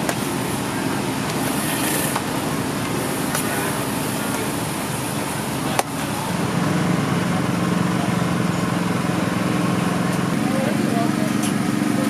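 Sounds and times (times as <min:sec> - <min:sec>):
busy outdoor market noise: 0:00.0 - 0:12.0
low motor hum: 0:00.0 - 0:12.0.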